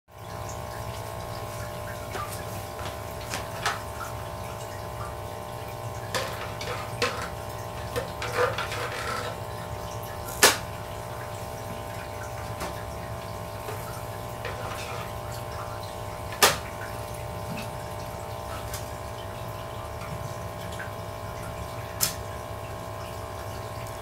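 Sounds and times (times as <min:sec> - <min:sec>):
aquarium air pump humming: 0:00.1 - 0:24.0
short sharp water splashes: 0:00.7 - 0:24.0.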